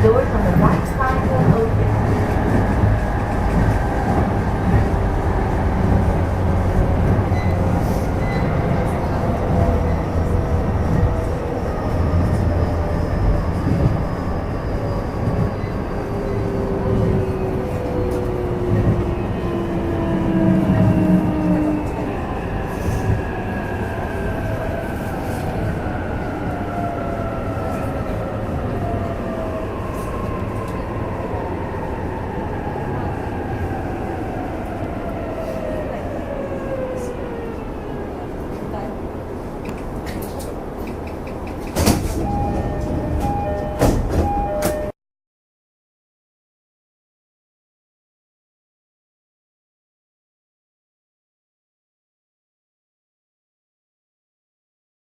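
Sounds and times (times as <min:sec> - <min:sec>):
wheels rumbling on rails: 0:00.0 - 0:44.9.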